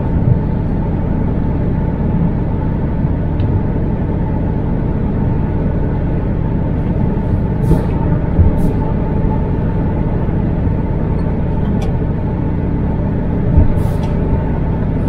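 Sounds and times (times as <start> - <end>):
low road rumble: 0.0 - 15.0
truck diesel engine running: 0.0 - 15.0.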